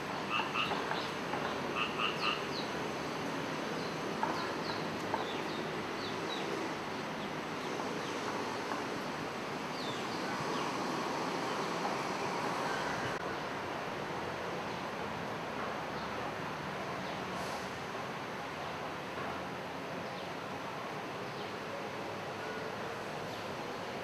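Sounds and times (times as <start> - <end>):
outdoor ambience hiss: 0.0 - 24.0.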